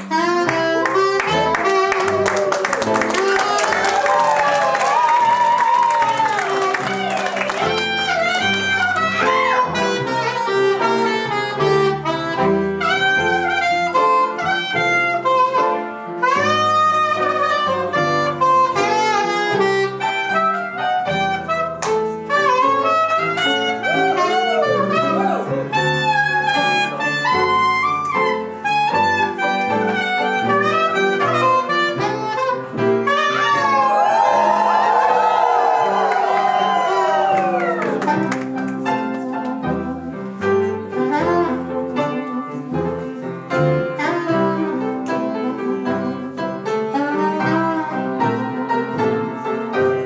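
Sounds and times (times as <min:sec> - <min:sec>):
blues band playing: 0:00.0 - 0:50.0
saxophone melody: 0:00.0 - 0:50.0.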